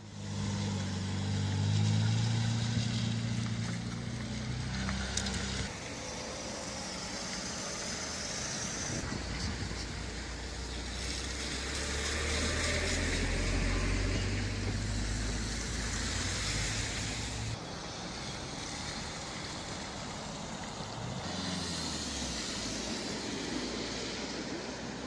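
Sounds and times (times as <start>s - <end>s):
noisy traffic: 0.0s - 25.0s
vehicle engine hum: 0.0s - 25.0s.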